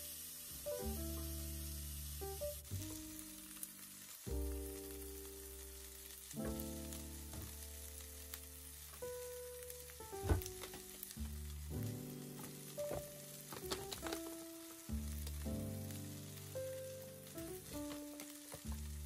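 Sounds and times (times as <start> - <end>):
beans sizzling in a pan: 0.0 - 19.0
background music of held notes: 2.3 - 19.0.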